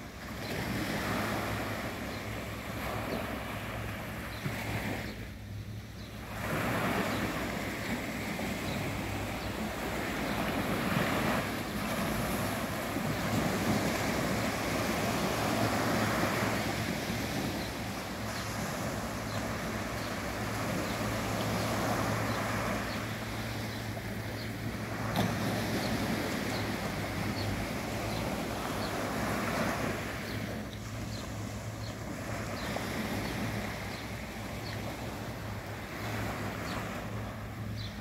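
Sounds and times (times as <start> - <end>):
waves breaking on beach: 0.0 - 38.0.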